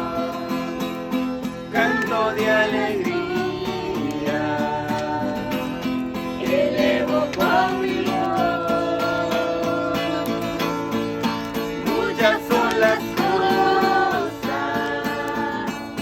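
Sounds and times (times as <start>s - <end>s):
acoustic guitar strumming: 0.0s - 16.0s
person singing a hymn: 0.0s - 16.0s.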